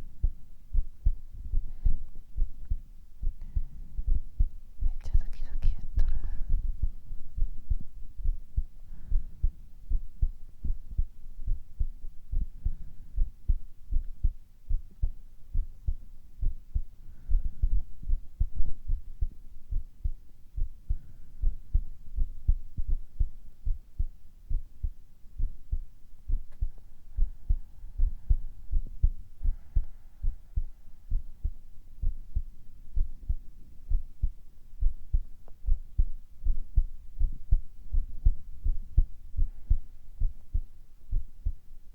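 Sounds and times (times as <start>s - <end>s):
human heartbeat: 0.0s - 41.9s.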